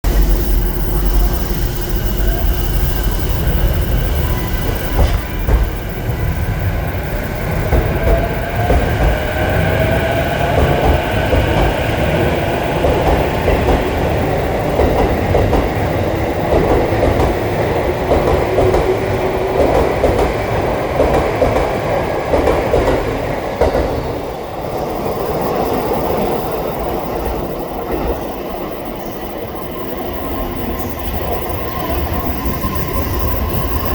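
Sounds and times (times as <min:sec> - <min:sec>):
electric train motor whine: 0:00.1 - 0:33.9
train cars running past: 0:00.1 - 0:33.9.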